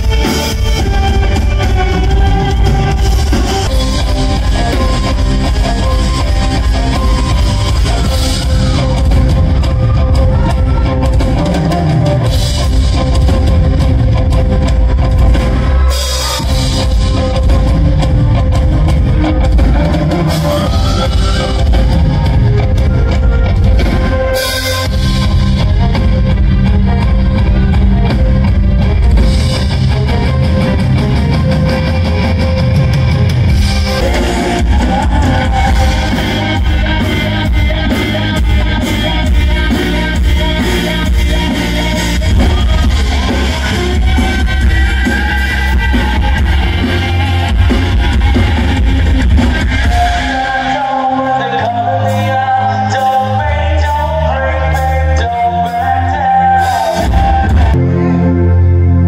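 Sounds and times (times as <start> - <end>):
rock band playing loudly: 0.0 - 59.0.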